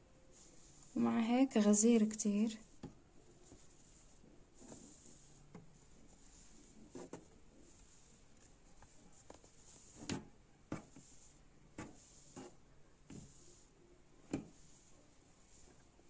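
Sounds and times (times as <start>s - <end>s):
soft rustling of yarn: 0.0s - 16.0s.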